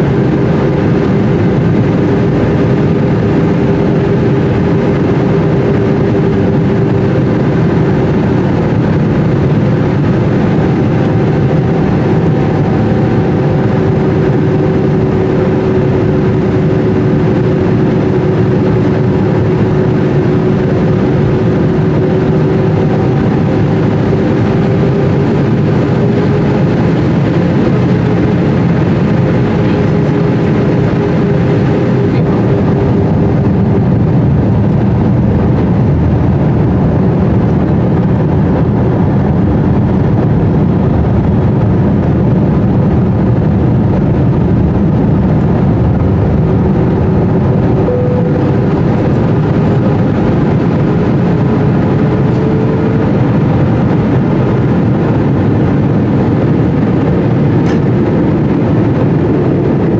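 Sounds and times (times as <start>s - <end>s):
droning hum: 0.0s - 59.9s
jet engine and airflow roar: 0.0s - 59.9s.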